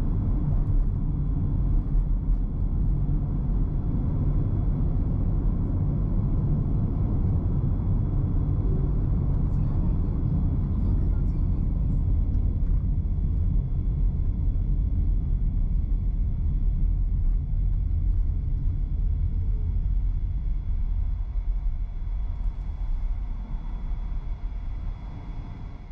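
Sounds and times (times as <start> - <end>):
faint high whine: 0.0 - 25.9.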